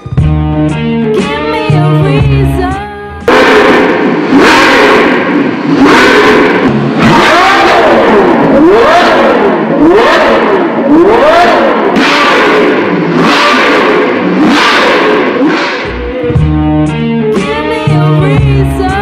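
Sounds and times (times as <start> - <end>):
car engine revving: 0.0 - 19.0
music with heavy bass: 0.0 - 19.0.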